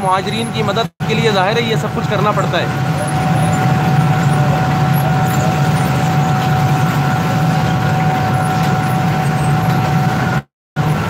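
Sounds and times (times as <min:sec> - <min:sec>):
constant machine whine: 0:00.0 - 0:11.0
factory machinery humming: 0:00.0 - 0:11.0.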